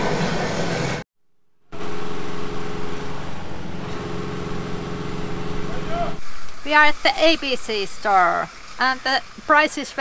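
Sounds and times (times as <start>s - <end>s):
small petrol engine humming: 1.7s - 10.0s.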